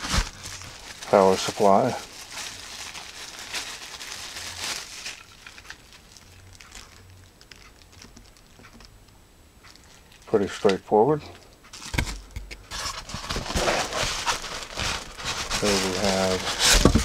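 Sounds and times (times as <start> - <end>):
plastic bag crinkling: 0.0 - 8.9, 9.7 - 17.0.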